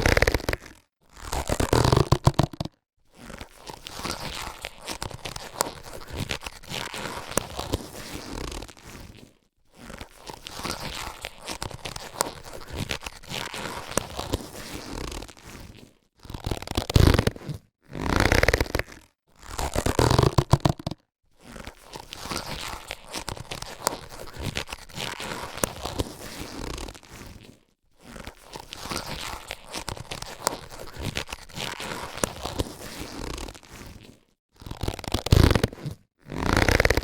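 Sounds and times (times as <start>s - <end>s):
latex gloves stretched and rubbed: 0.0s - 37.0s.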